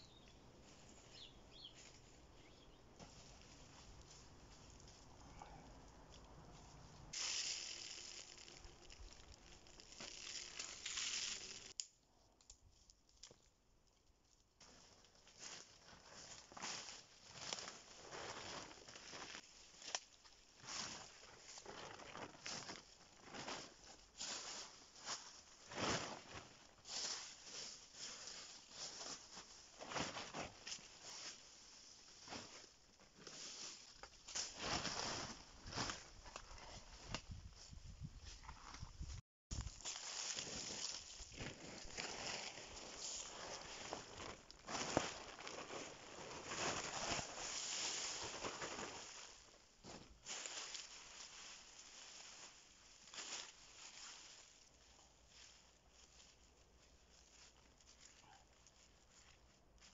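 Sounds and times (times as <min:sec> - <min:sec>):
dry leaves and twigs rustling: 0:00.1 - 0:11.8, 0:12.6 - 0:59.9
footsteps through leaf litter: 0:03.0 - 0:05.1, 0:06.5 - 0:11.8, 0:14.7 - 0:37.0, 0:39.5 - 0:59.9.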